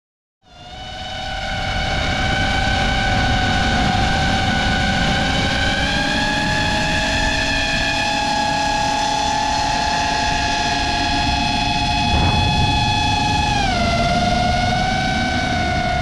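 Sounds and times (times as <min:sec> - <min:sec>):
drone motors whining: 0:00.5 - 0:16.0.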